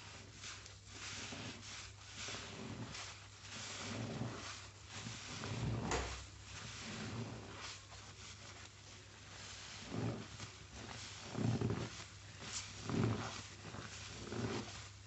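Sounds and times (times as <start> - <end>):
wet sponge squishing: 0.0 - 15.0.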